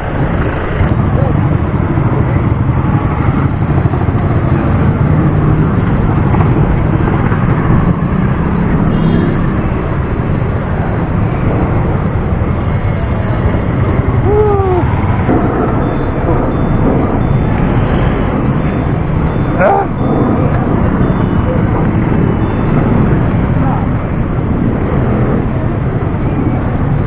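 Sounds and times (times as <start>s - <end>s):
motor traffic: 0.0s - 27.0s.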